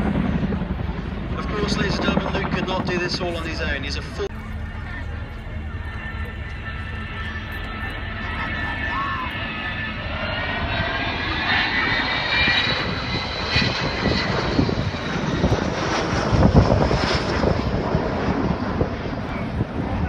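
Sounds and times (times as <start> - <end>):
jet engine roar with turbine whine: 0.0 - 20.0.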